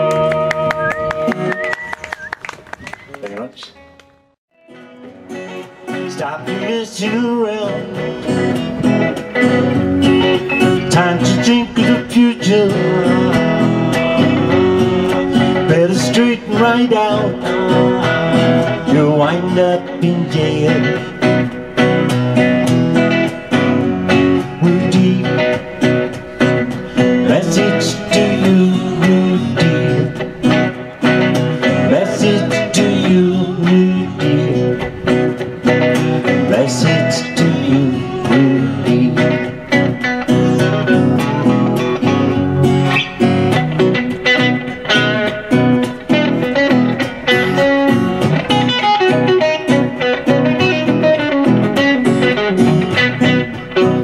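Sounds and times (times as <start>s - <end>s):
electric guitar picked lines: 0.0s - 54.0s
acoustic guitar strumming chords: 4.6s - 54.0s.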